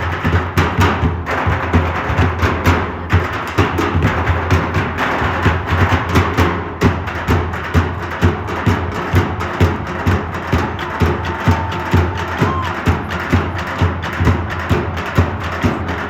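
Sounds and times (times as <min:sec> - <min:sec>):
music with steady drum beat: 0:00.0 - 0:16.0.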